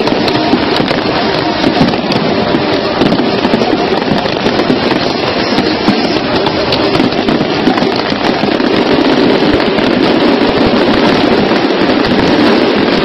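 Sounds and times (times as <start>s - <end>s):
fireworks bangs and crackle: 0.0s - 13.0s.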